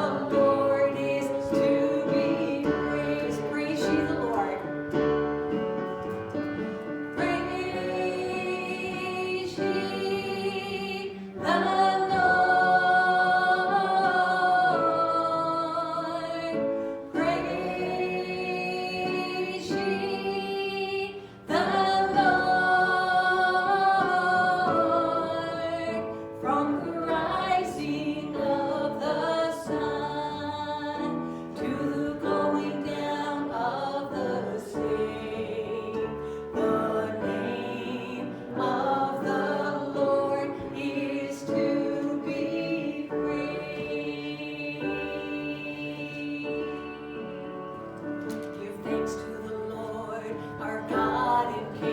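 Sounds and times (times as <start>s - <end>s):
group singing gospel song: 0.0s - 51.9s.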